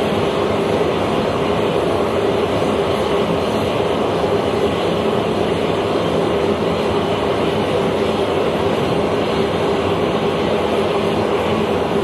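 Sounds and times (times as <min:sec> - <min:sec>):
jet aircraft engine drone: 0:00.0 - 0:12.0.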